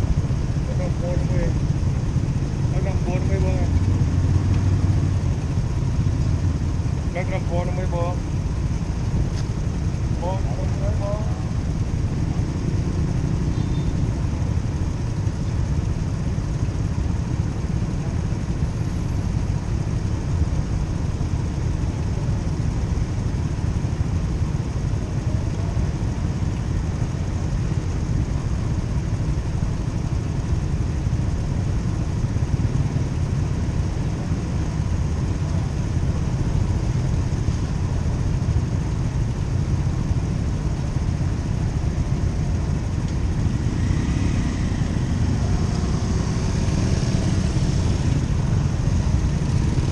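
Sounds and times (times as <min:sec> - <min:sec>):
motorcycle engine rumbling: 0:00.0 - 0:49.9.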